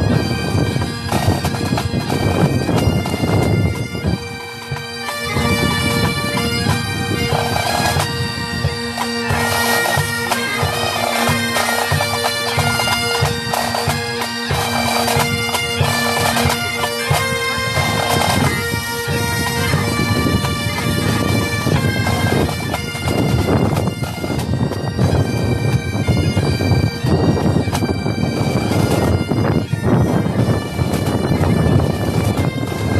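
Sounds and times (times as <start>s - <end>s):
drums beating: 0.0s - 28.0s
bagpipes playing a march: 0.0s - 32.9s
wind buffeting microphone: 0.0s - 32.9s.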